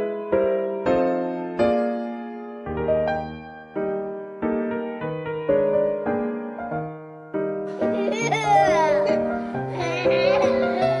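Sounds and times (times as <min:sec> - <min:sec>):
electric piano playing chords: 0:00.0 - 0:11.0.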